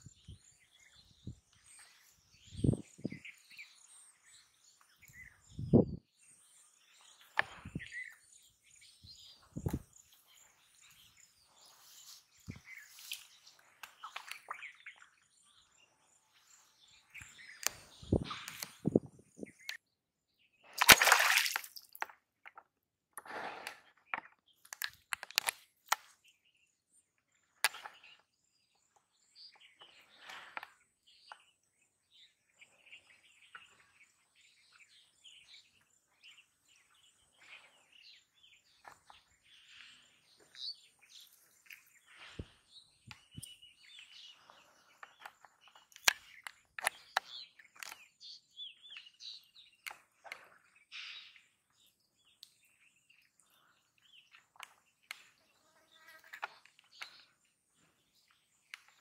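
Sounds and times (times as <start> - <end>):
birds chirping: 0.0 - 22.6, 23.4 - 59.0.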